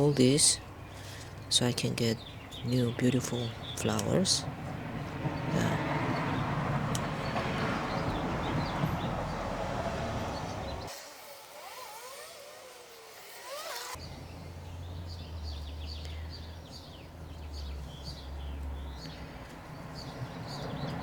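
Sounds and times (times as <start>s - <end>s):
low rumble of traffic: 0.0s - 11.0s, 12.8s - 21.0s
small birds chirping: 0.0s - 11.0s, 13.2s - 21.0s.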